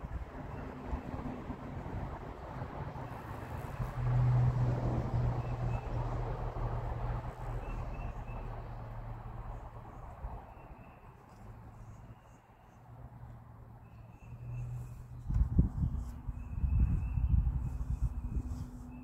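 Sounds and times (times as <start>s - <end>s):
vehicle engine hum passing: 0.0s - 19.0s.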